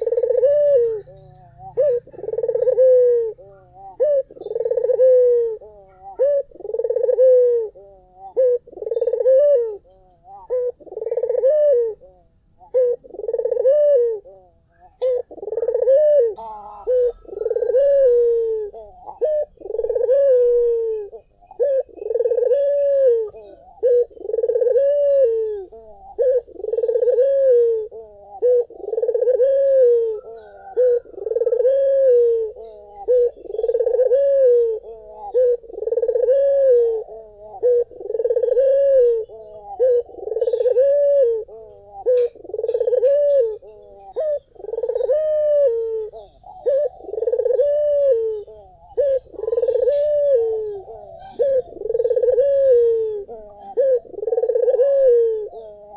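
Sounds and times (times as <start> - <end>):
dove cooing: 0.0 - 55.9
faint bird chirps: 0.0 - 55.9.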